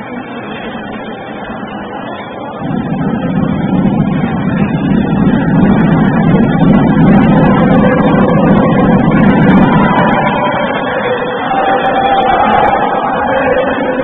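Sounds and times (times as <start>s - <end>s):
arena crowd noise: 0.0s - 14.0s
faint music tones: 0.0s - 14.0s.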